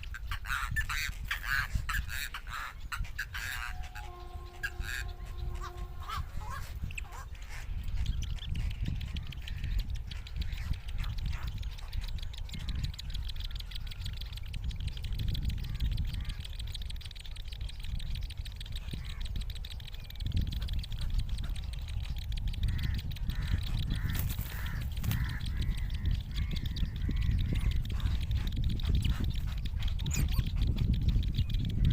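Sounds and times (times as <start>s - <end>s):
steady low rumble: 0.0s - 31.9s
young bird calling: 0.0s - 31.9s.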